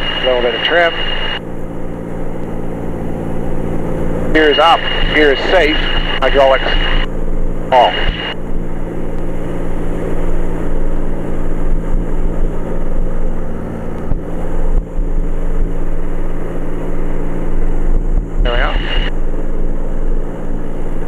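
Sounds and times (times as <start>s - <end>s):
propeller plane engine in cabin: 0.0s - 21.0s.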